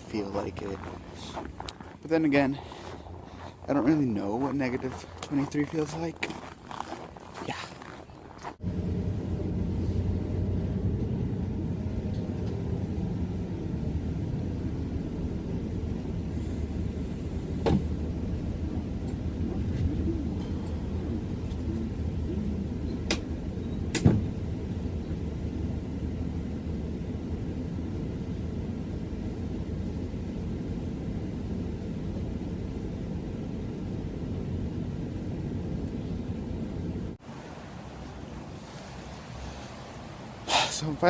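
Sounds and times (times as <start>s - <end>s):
transit vehicle rumble: 0.0s - 41.0s.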